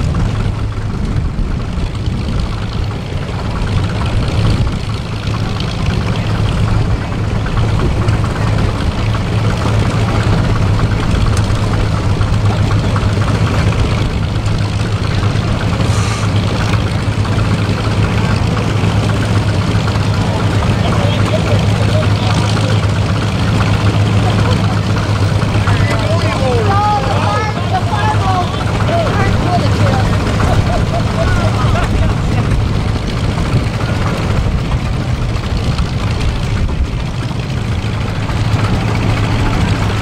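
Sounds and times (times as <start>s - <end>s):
tractor engines running slowly: 0.0s - 40.0s.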